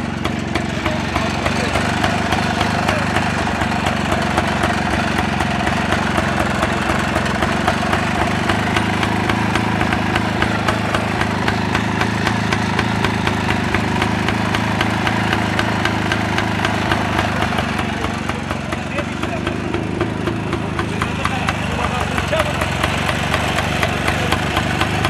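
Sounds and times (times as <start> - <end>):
motorcycle engine idling: 0.0 - 25.0
regular ticking: 0.0 - 25.0.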